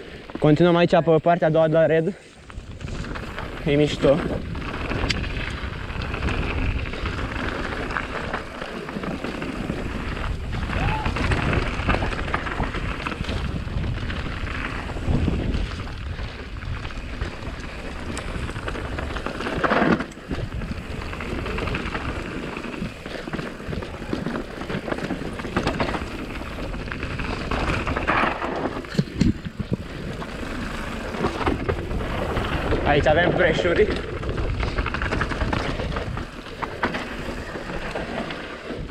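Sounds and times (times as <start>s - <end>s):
bike rattling over rough ground: 0.0s - 38.9s
wind rush on microphone: 2.4s - 38.9s
bike knocking on bumps: 2.5s - 38.9s.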